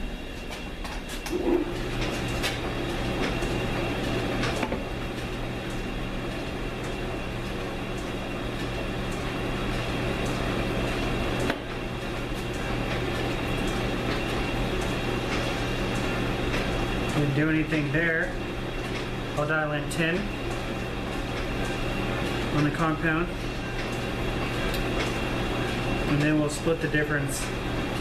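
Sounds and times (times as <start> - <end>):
lathe humming: 0.0 - 28.0.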